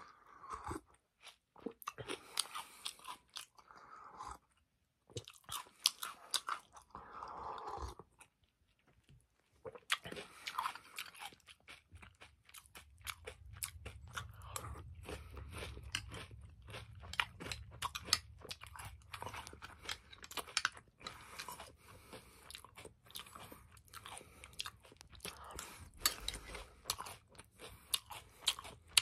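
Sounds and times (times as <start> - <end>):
chewing crunchy cereal: 0.0 - 29.0.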